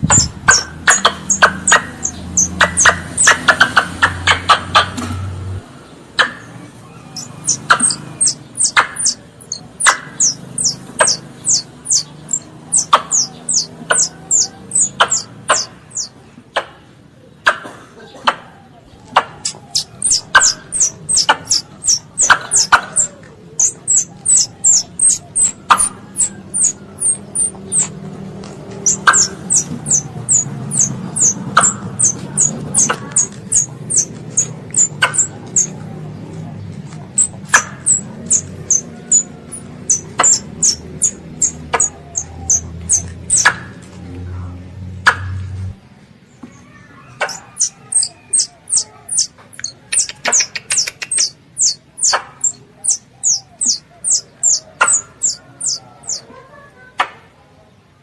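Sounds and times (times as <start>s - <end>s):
young squirrel chirping: 0.0s - 5.0s, 6.2s - 16.7s, 19.0s - 43.9s, 47.2s - 56.3s.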